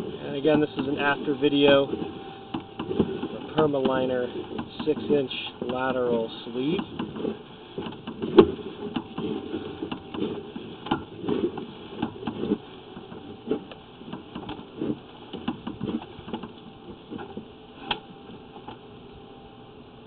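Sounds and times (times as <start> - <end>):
push cable clicking and knocking: 1.7 - 18.0.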